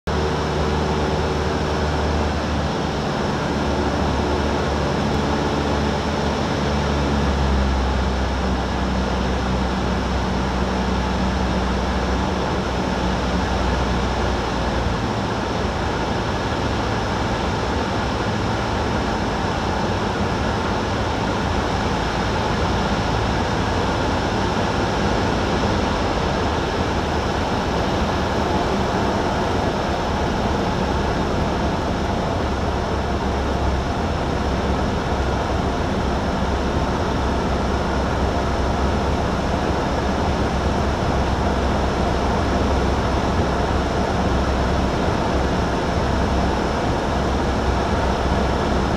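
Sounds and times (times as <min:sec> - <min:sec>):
light aircraft engine drone: 0:00.1 - 0:48.9.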